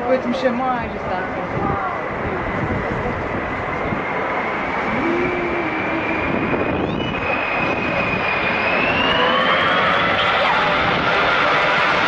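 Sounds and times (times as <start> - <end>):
airplane engine with high whine: 0.0 - 12.0.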